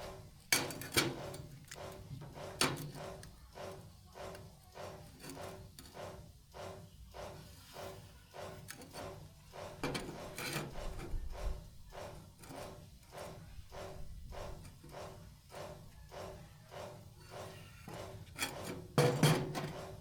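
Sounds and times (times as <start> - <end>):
rhythmic scraping strokes: 0.0 - 20.0.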